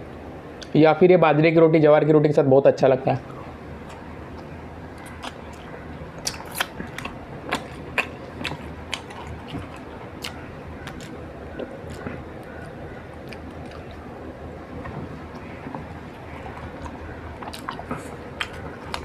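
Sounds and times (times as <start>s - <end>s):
close chewing with mouth clicks: 3.3s - 19.0s.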